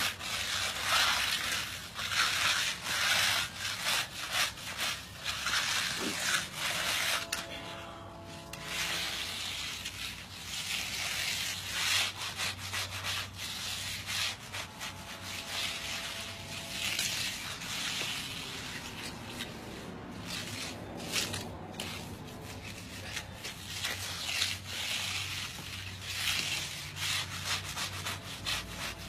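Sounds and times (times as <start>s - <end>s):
hand float scraping concrete: 0.0s - 29.0s.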